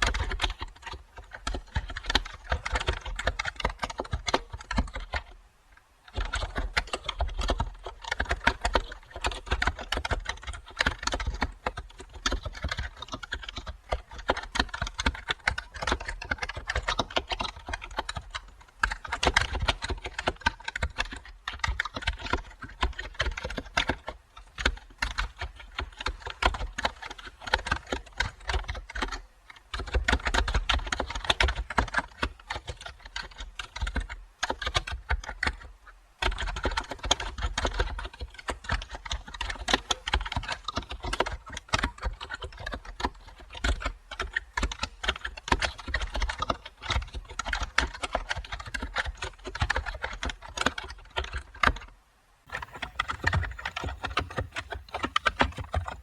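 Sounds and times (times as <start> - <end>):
fast keyboard typing: 0.0 - 5.3, 6.1 - 35.6, 36.3 - 51.4, 52.5 - 56.0.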